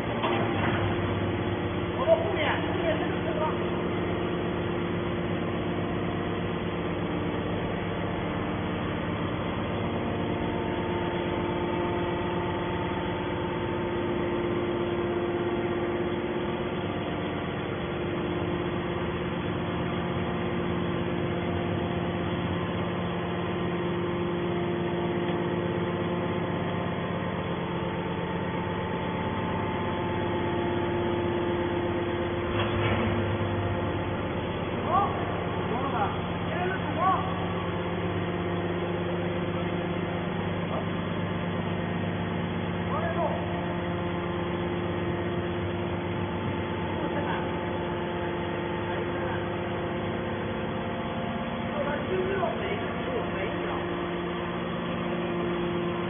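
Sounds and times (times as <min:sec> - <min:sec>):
hydraulic power unit humming: 0:00.0 - 0:56.0.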